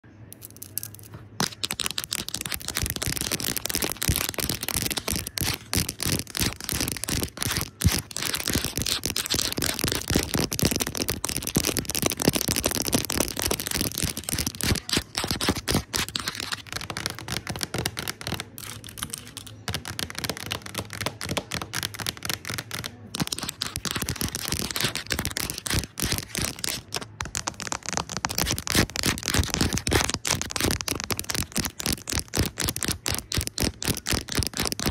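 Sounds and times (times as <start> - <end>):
fast tapping on a screen: 0.8 - 34.9.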